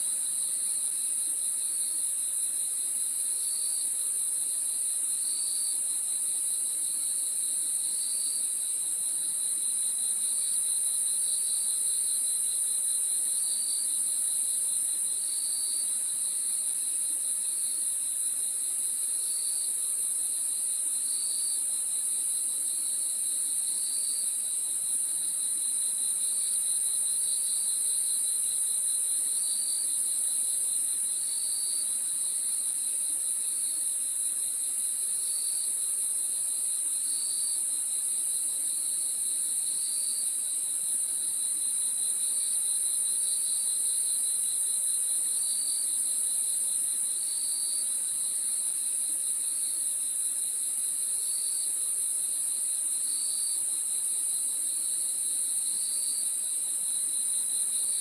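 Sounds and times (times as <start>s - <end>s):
high-pitched cricket trill: 0.0s - 58.0s.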